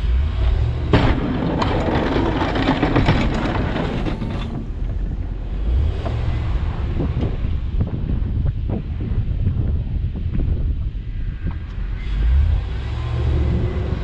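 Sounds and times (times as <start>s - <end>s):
low road rumble: 0.0s - 14.0s
wind buffeting camera: 0.0s - 14.0s.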